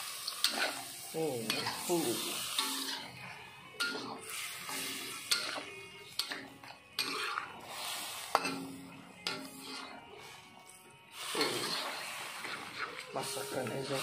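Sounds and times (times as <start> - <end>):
metal spatula scraping wok: 0.1 - 14.0.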